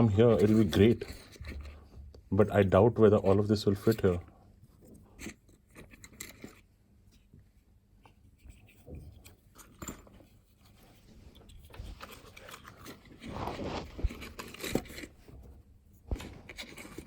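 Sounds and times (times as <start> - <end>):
rustling and scraping of case: 0.0 - 2.2, 3.0 - 17.0.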